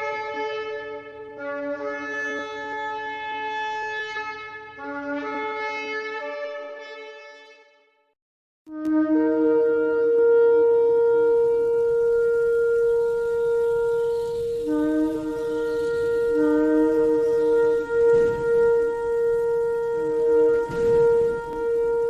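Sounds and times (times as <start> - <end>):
long steady shofar note: 0.0 - 7.7, 8.7 - 22.0
lower shofar note: 0.0 - 7.7, 8.7 - 22.0.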